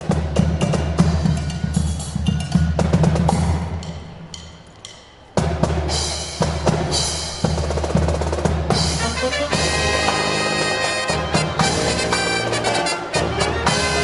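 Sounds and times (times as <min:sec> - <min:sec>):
marching drum line cadence: 0:00.0 - 0:14.0.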